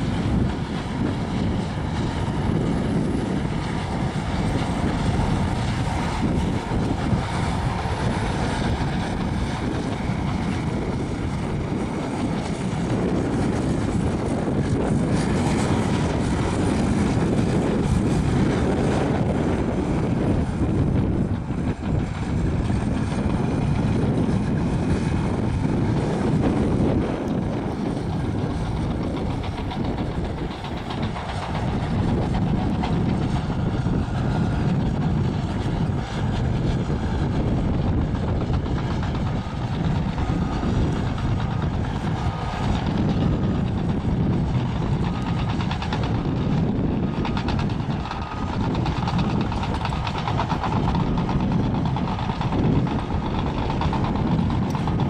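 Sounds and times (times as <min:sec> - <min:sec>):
bulldozer diesel engine: 0:00.0 - 0:55.0
track clatter: 0:00.0 - 0:55.0.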